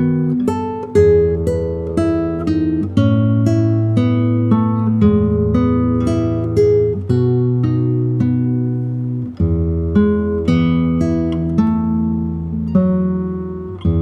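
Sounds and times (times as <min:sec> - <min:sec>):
fingerpicked solo guitar: 0:00.0 - 0:14.0.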